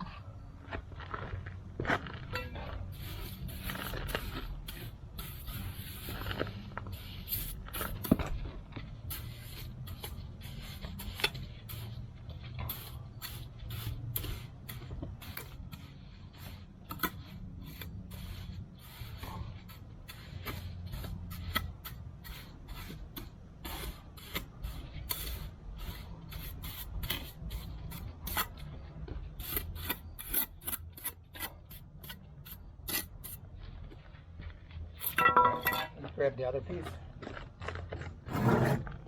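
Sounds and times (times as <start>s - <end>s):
trowel scraping mortar: 2.2s - 33.4s, 35.0s - 36.0s, 38.1s - 39.0s.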